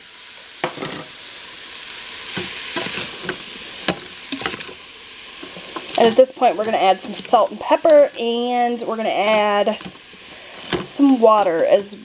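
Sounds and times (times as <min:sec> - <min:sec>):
meat and vegetables sizzling in a pot: 0:00.0 - 0:12.0.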